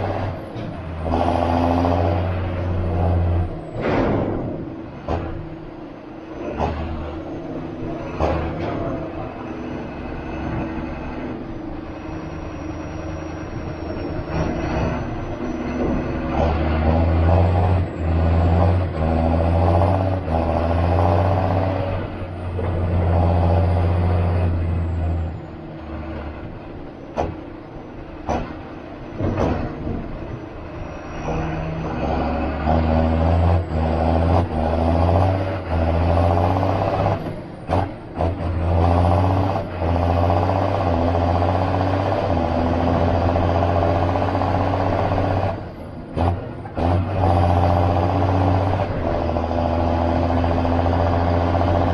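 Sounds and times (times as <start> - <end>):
tractor diesel engine pulling: 0.0 - 51.9.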